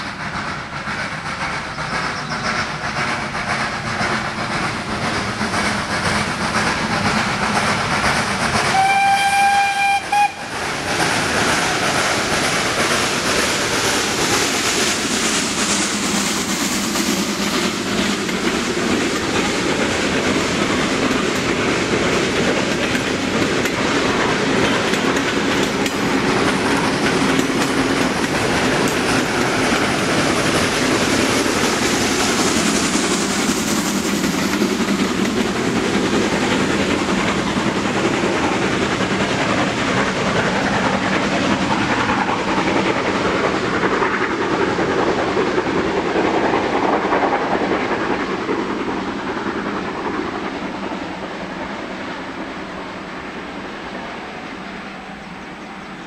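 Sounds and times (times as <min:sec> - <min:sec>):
train wheels clacking over rail joints: 0:00.0 - 0:53.0
steam locomotive hiss: 0:00.0 - 0:56.0.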